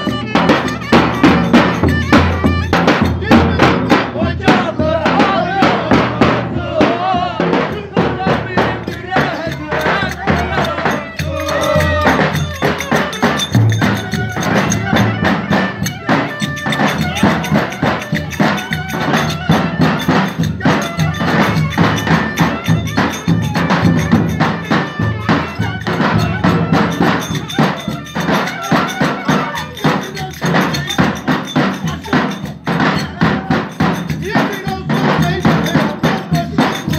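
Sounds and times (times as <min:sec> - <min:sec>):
sharp clicking percussion: 0:00.0 - 0:36.9.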